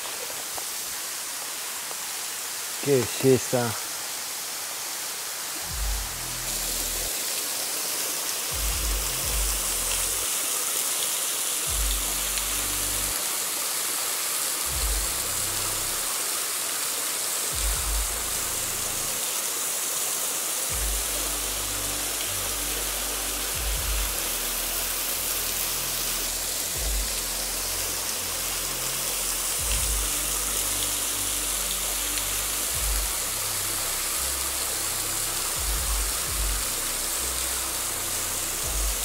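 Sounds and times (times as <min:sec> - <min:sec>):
soft background music: 0:00.0 - 0:39.0
waterfall splashing onto rocks: 0:00.0 - 0:39.0.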